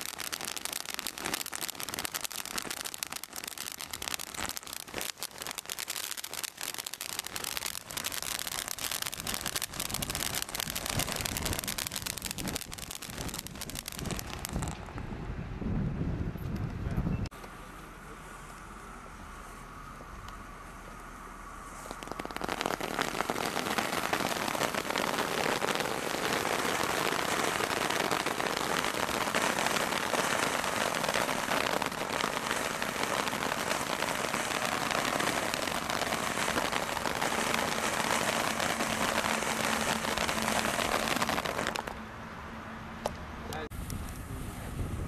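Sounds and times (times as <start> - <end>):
firework hissing and crackling: 0.0 - 15.2, 17.3 - 42.0, 43.5 - 45.0.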